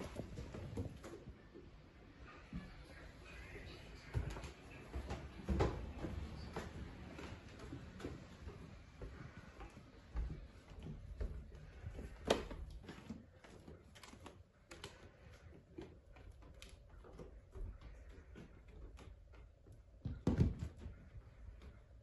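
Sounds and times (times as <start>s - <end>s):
footsteps on wooden floorboards: 2.4s - 22.0s.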